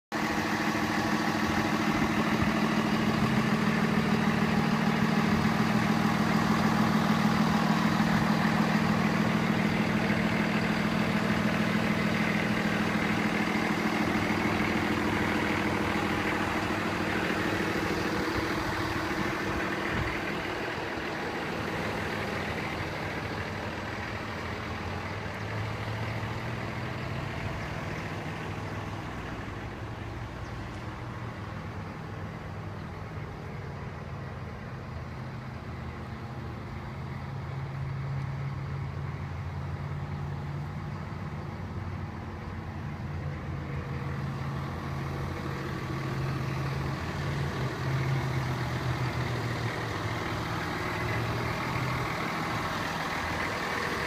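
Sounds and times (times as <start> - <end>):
diesel engine idling: 0.1 - 54.0.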